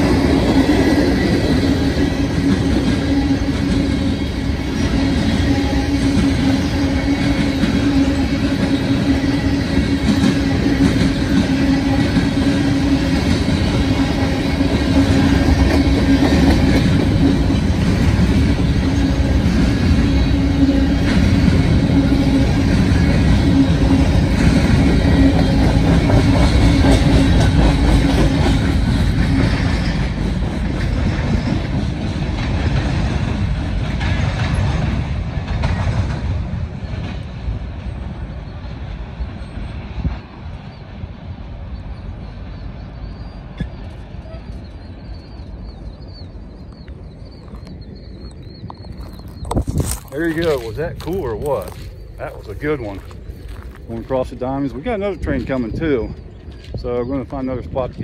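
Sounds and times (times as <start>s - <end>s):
train wheels clattering over crossing: 0.0s - 58.0s.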